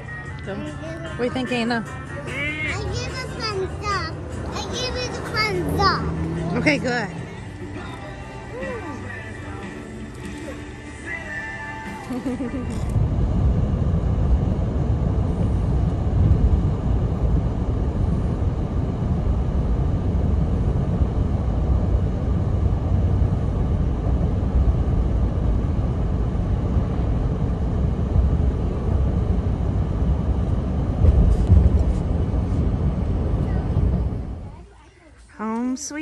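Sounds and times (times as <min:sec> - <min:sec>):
vehicle road and wind noise: 0:00.0 - 0:34.7.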